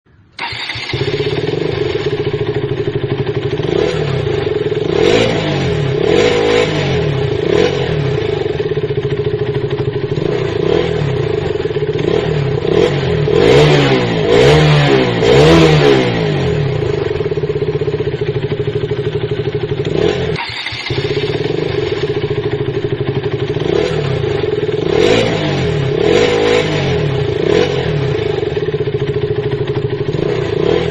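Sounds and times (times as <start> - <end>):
motorcycle engine idling and revving: 0.1 - 30.9.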